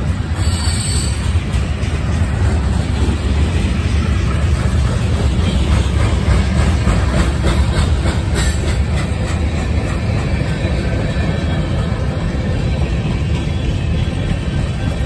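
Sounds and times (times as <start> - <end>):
freight train rumbling: 0.0 - 15.0
wheels clacking over rail joints: 0.0 - 15.0.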